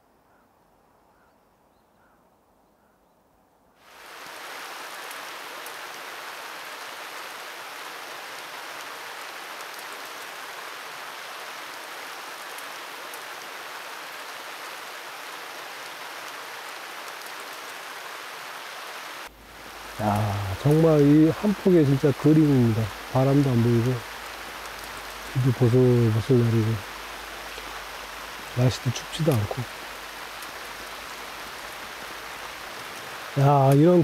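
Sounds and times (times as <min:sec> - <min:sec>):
steady rain falling: 0:03.8 - 0:34.0.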